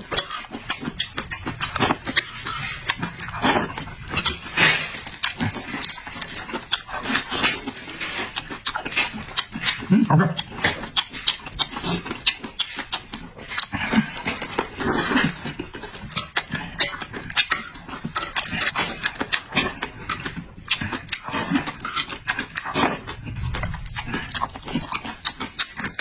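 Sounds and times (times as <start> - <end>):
person chewing noisily: 0.0 - 26.0.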